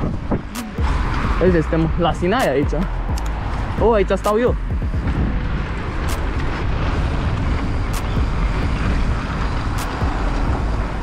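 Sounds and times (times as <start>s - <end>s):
bike tyre and trail rumble: 0.0s - 11.0s
wind buffeting on camera: 0.0s - 11.0s.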